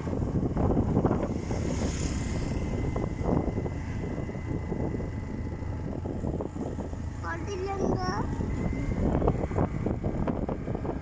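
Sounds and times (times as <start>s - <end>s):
vehicle road and engine noise: 0.0s - 11.0s
wind buffeting microphone: 0.0s - 11.0s.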